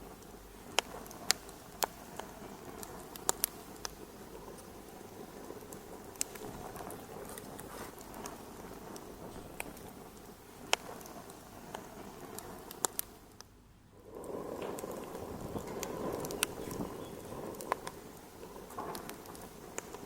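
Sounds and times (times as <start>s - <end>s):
sharp pops of fire: 0.0s - 20.0s
wood fire crackling: 0.0s - 20.0s.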